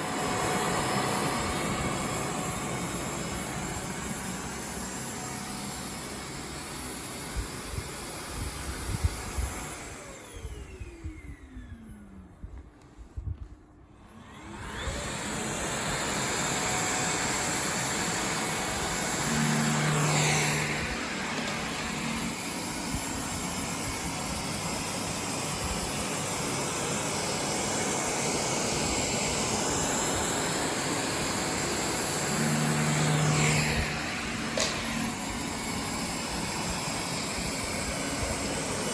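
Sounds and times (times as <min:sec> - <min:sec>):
vacuum cleaner whirring: 0:00.0 - 0:38.9.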